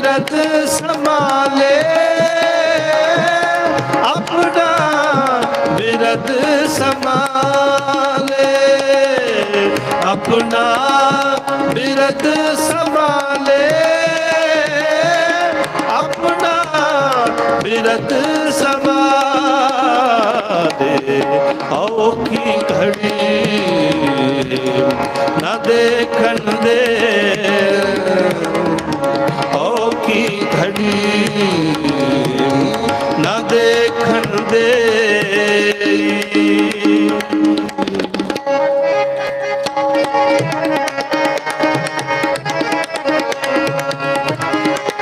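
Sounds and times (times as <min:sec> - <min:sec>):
harmonium sustained notes: 0:00.0 - 0:45.0
person singing: 0:00.0 - 0:45.0
tabla rhythm: 0:00.0 - 0:45.0.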